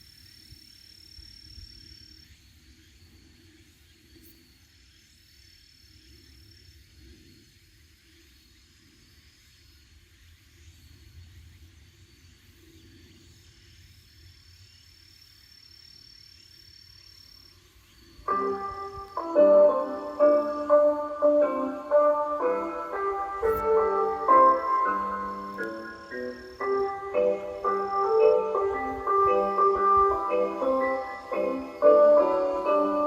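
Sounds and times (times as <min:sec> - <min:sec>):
high insect trill: 0:00.0 - 0:33.0.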